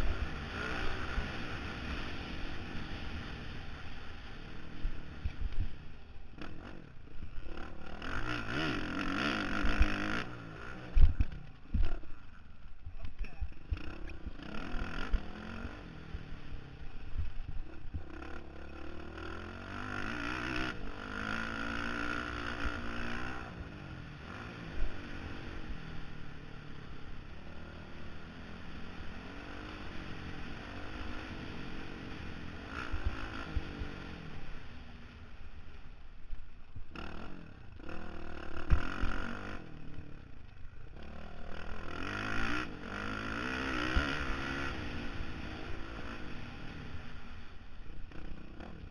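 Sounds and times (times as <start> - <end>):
dirt bike engine revving: 0.0 - 12.6, 13.2 - 35.4, 36.7 - 48.9.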